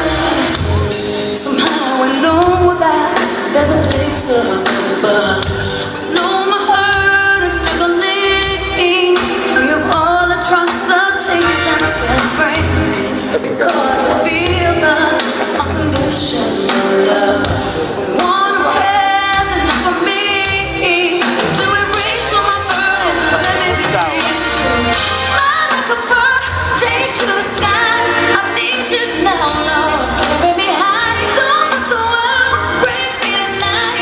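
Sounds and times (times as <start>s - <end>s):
live band accompaniment: 0.0s - 34.0s
woman singing: 0.0s - 34.0s.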